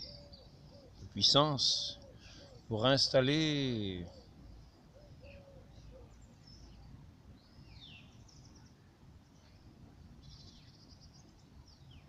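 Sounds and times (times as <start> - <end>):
faint birdsong: 0.0 - 12.0
low outdoor background noise: 0.0 - 12.0.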